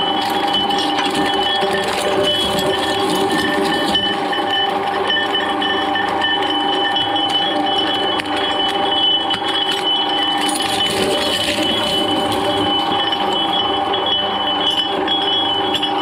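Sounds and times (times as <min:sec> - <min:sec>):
shredder whining: 0:00.0 - 0:16.0.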